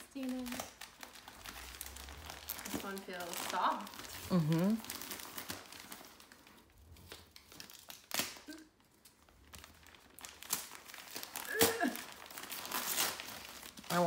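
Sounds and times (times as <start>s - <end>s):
wrapping paper crinkling and tearing: 0.0s - 14.0s.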